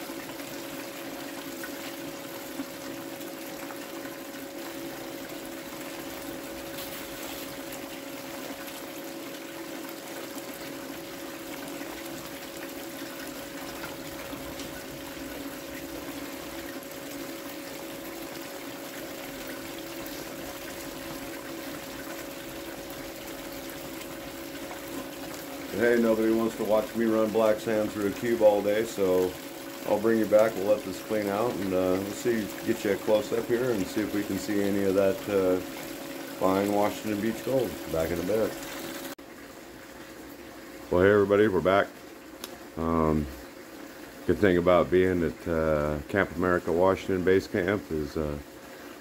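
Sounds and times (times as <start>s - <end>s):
water flowing over mat: 0.0s - 40.7s
low machine hum: 0.0s - 49.0s.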